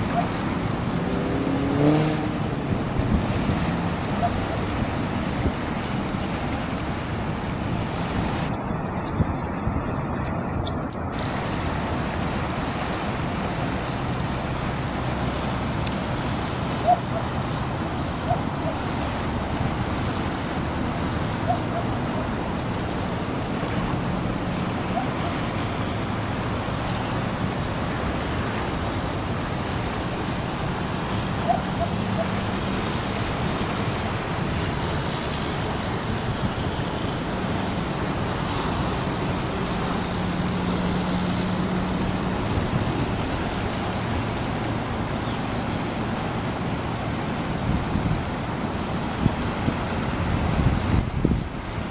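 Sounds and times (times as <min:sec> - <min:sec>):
fast-moving river: 0:00.0 - 0:51.9
wind: 0:00.0 - 0:51.9.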